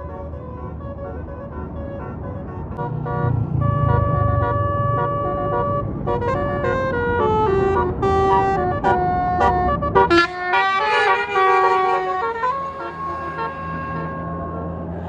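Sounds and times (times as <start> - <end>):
bus engine running: 0.0 - 15.0
musical bus horn tune: 0.0 - 15.0.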